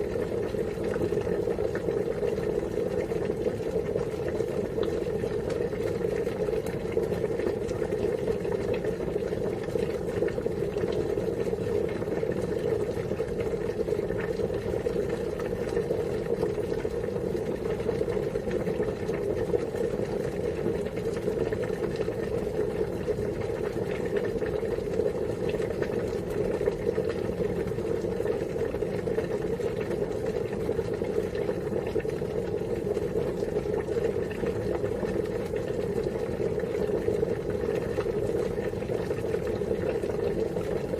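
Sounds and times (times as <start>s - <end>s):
water boiling: 0.0s - 40.9s.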